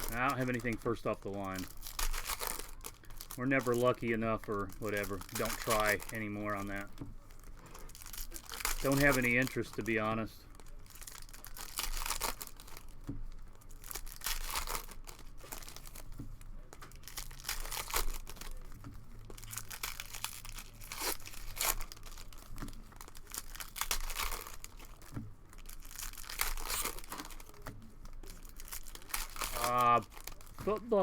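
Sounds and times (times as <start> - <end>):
cellophane wrappers crinkling and tearing: 0.0 - 31.0.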